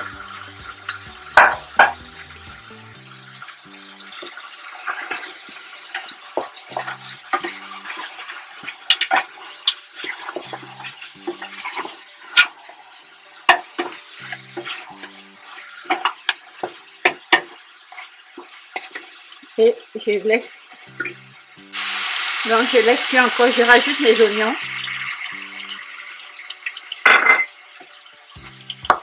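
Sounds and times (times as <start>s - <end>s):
meat sizzling in a pot: 0.0s - 29.0s.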